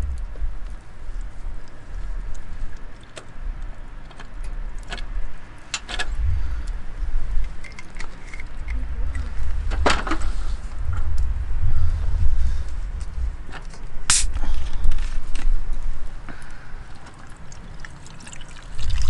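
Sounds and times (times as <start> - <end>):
steady low rumble: 0.0 - 17.9.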